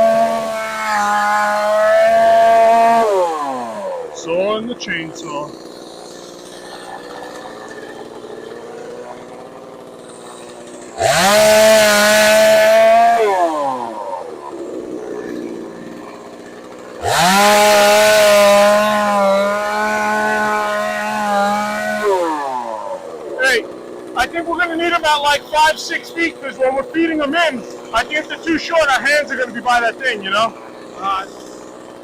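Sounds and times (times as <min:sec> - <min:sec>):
chainsaw idling and revving: 0:00.0 - 0:32.0.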